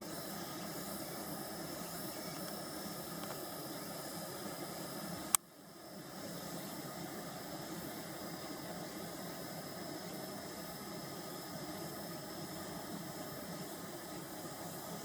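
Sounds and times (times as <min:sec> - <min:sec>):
fan heater hissing: 0:00.0 - 0:15.0.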